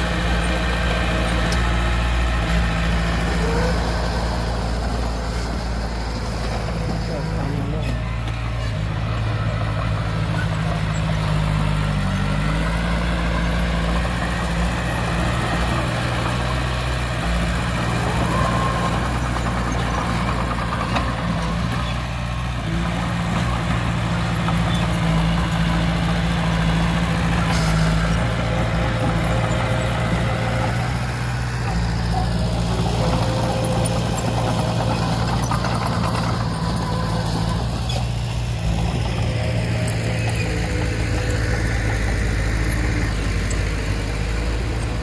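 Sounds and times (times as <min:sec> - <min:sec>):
heavy diesel engine running: 0:00.0 - 0:45.0.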